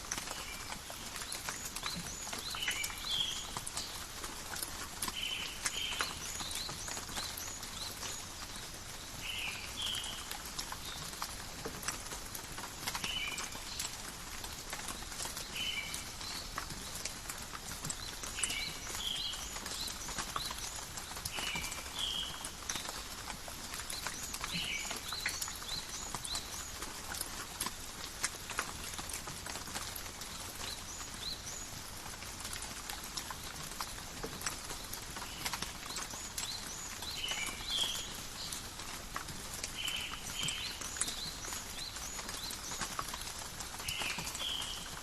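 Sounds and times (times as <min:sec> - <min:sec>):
light rain pattering: 0:00.0 - 0:45.0
small birds chirping: 0:00.0 - 0:45.0.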